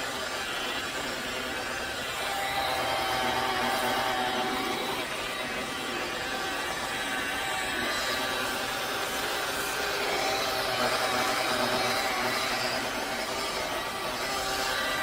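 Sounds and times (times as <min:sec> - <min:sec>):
electric buffer running: 0:00.0 - 0:15.0.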